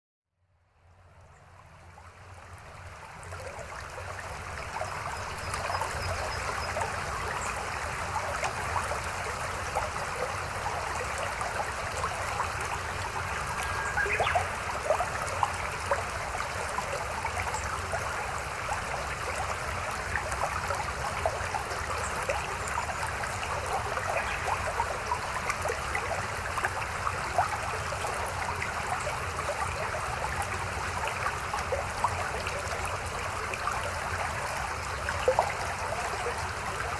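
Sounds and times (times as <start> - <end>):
stream water rushing and gurgling: 0.9 - 36.9.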